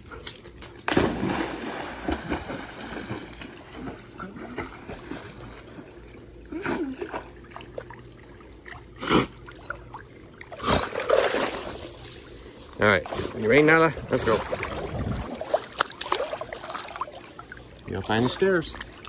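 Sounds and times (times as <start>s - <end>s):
water splashing in pool: 0.6s - 19.0s.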